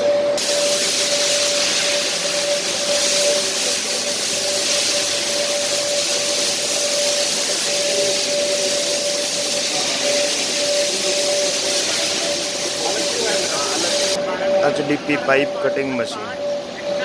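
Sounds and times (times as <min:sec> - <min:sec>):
machinery hiss: 0:00.0 - 0:17.0
mid-pitched machine whine: 0:00.0 - 0:17.0.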